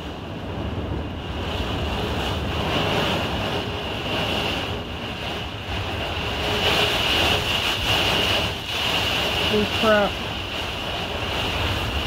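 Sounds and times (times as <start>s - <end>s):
heavy rain on camper roof: 0.0s - 12.0s.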